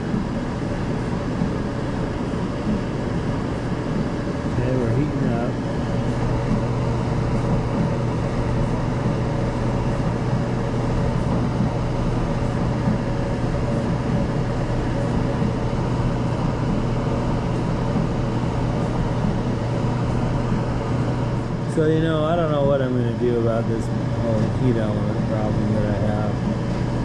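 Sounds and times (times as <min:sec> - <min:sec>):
clothes dryer running: 0:00.0 - 0:27.0.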